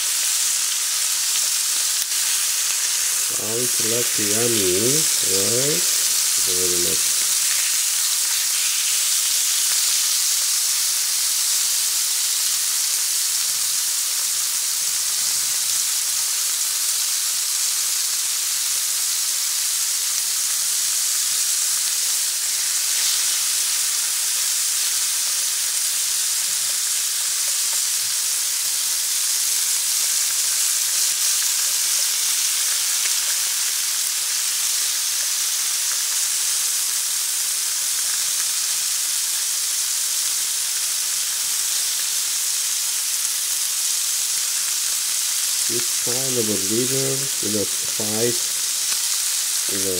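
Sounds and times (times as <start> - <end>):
chicken sizzling in frying oil: 0.0 - 49.9.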